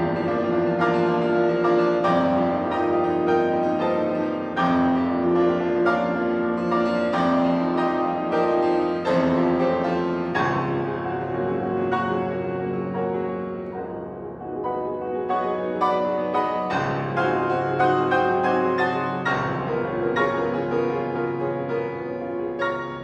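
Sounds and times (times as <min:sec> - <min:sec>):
classical piano music: 0:00.0 - 0:23.0.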